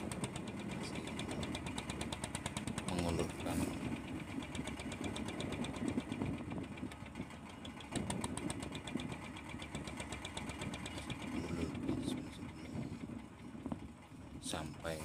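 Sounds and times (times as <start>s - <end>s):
boat engine ticking and rumbling: 0.0s - 15.0s.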